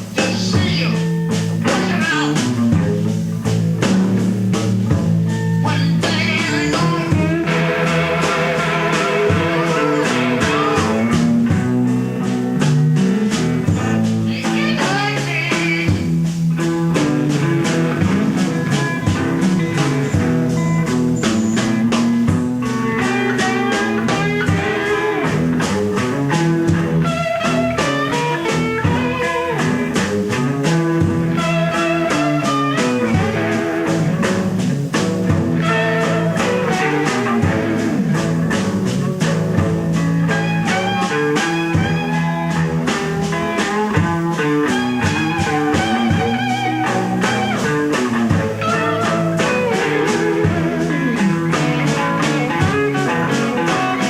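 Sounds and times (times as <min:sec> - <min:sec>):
electric guitar lines: 0:00.0 - 0:54.0
steady drum beat: 0:00.0 - 0:54.0.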